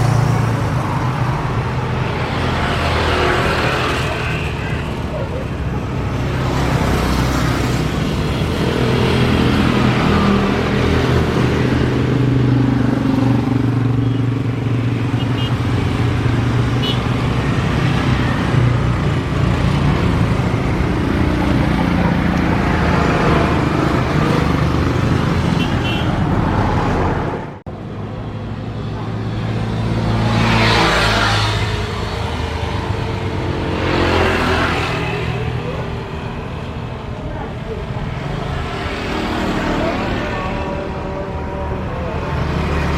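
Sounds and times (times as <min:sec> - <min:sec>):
car engines: 0:00.0 - 0:42.9
motorcycle engines: 0:00.0 - 0:42.9.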